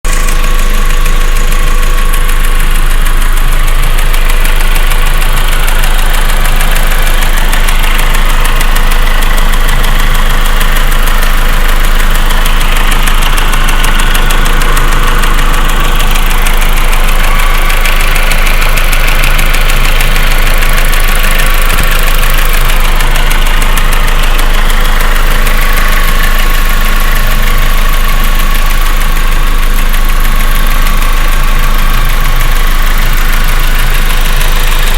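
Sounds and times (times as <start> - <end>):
car engine idling: 0.0 - 34.9
rapid engine ticking: 0.0 - 34.9.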